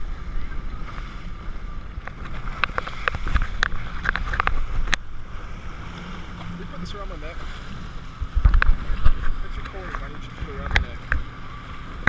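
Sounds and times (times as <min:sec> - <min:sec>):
jet ski engine rumble: 0:00.0 - 0:12.0
wind on microphone: 0:00.0 - 0:12.0.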